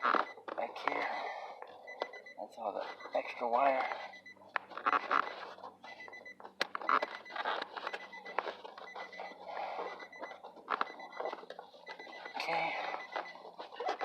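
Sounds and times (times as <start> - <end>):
car warning chime beeping: 0.0 - 14.0.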